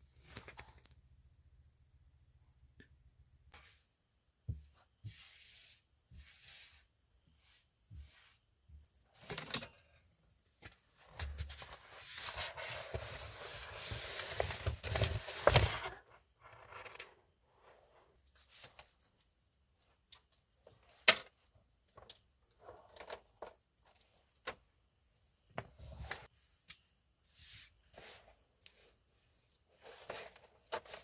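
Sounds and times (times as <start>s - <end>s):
rustling of things being handled: 3.5s - 31.0s.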